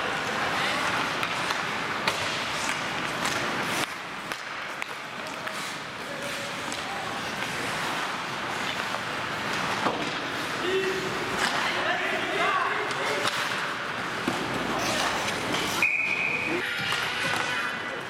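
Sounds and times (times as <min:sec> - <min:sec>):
clacks of sticks and puck: 0:00.0 - 0:18.0.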